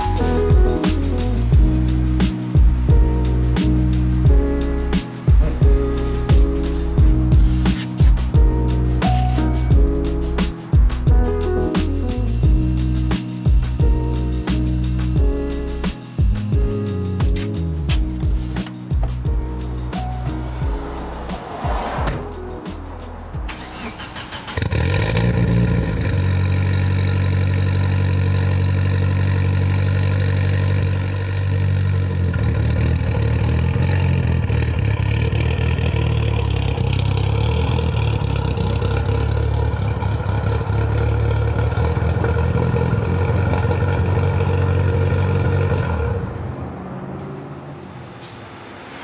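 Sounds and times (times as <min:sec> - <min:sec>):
car engine starting and idling: 0:00.0 - 0:49.0.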